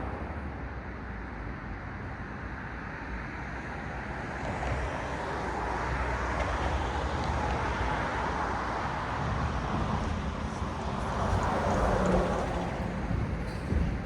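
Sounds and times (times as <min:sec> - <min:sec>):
cars passing on a road: 0:00.0 - 0:14.0.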